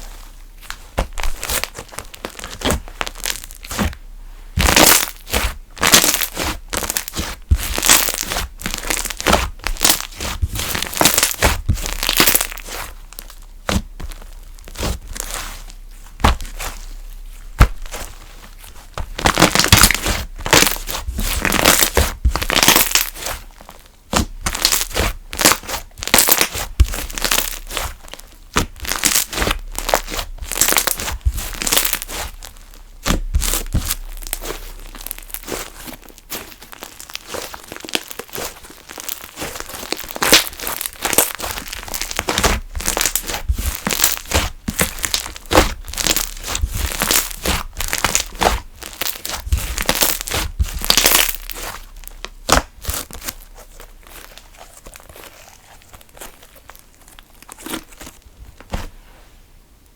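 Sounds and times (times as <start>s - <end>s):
hands squishing slime: 0.0s - 59.0s.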